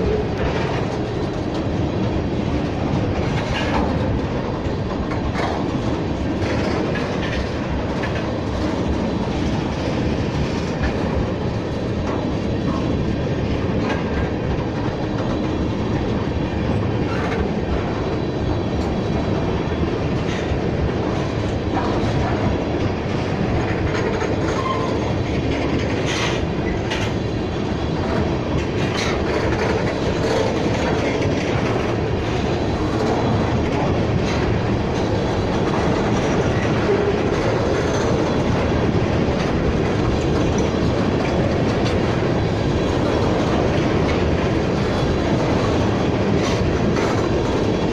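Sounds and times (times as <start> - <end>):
clickety-clack over rail joints: 0.0 - 47.9
train wheels rumbling on rails: 0.0 - 47.9.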